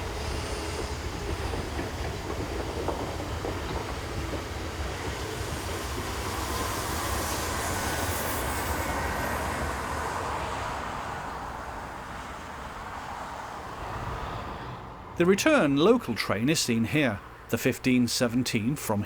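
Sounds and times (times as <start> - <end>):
train rumbling past on rails: 0.0 - 19.0.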